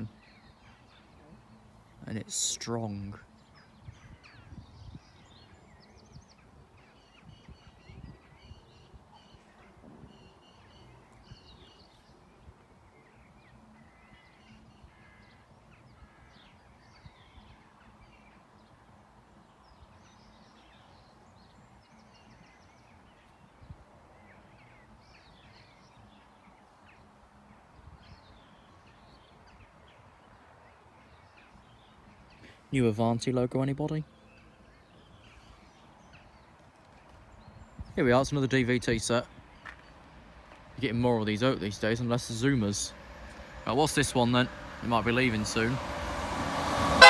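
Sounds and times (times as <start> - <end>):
songbirds chirping and singing: 0.0 - 47.0.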